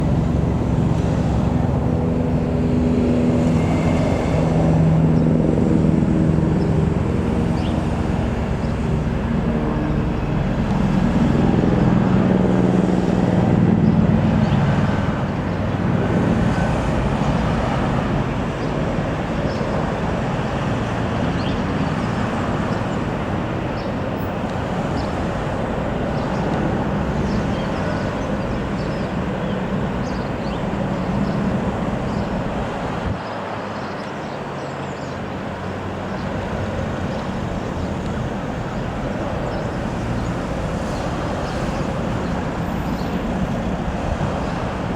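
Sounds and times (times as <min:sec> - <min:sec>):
vehicle engine noise: 0:00.0 - 0:44.9.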